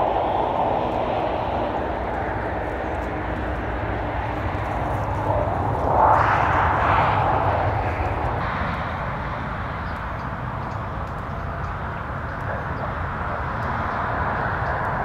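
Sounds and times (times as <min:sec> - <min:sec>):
low rumble: 0:00.0 - 0:15.0
outdoor rushing noise: 0:00.0 - 0:15.0.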